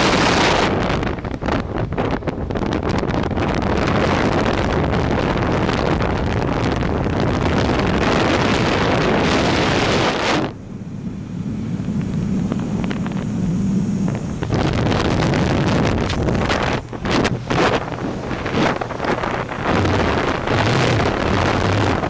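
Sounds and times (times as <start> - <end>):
low rumble with steady hum: 0.0 - 22.0
wind buffeting microphone: 0.0 - 22.0.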